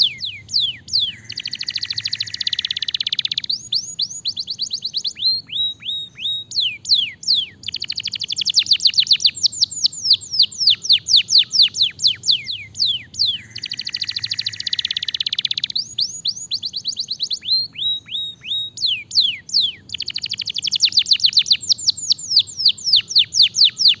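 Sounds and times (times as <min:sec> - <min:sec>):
canary trilling: 0:00.0 - 0:24.0.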